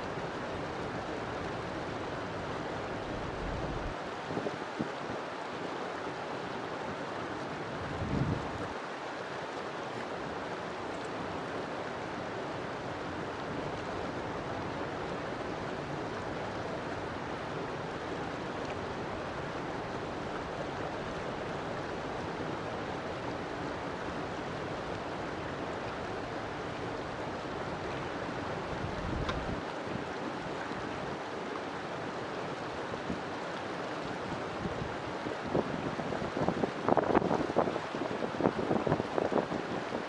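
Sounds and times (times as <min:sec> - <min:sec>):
river water flowing: 0:00.0 - 0:40.0.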